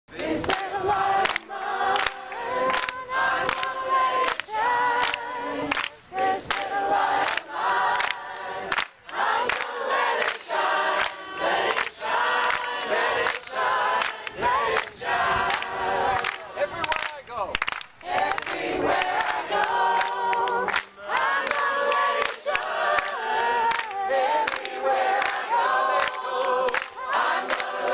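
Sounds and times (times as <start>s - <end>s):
group singing in unison: 0.1s - 16.8s, 17.8s - 27.9s
rhythmic claps: 0.1s - 27.9s.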